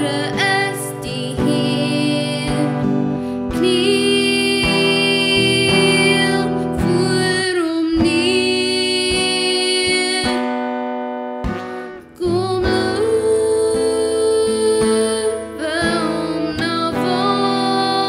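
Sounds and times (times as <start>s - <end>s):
acoustic guitar: 0.0s - 18.0s
woman singing a slow song: 0.0s - 18.0s.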